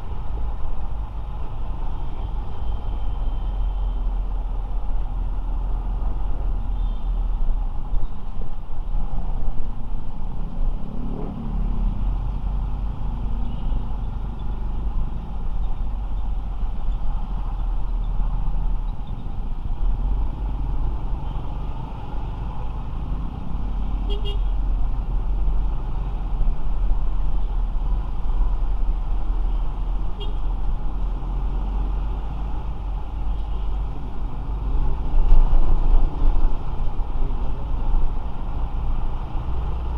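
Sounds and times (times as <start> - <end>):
passing traffic: 0.0 - 39.9
road noise: 0.0 - 39.9.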